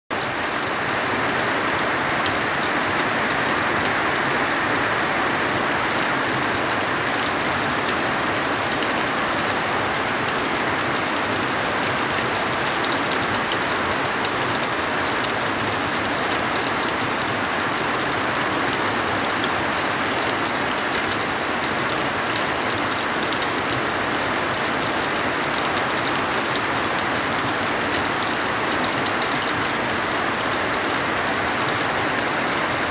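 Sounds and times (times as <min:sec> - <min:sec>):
heavy rain pouring: 0:00.1 - 0:32.9.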